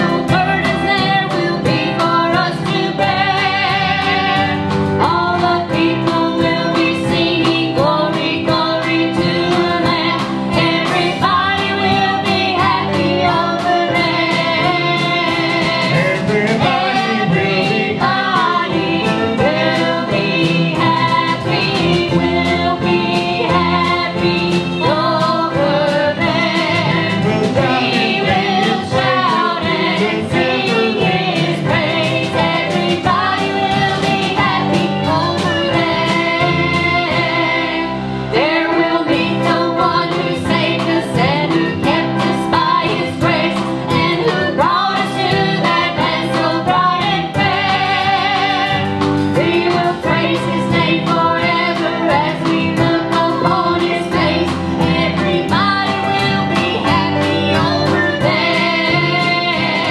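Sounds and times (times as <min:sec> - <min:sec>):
acoustic guitar: 0:00.0 - 0:59.9
drum kit beat: 0:00.0 - 0:59.9
keyboard: 0:00.0 - 0:59.9
people singing: 0:00.0 - 0:59.9.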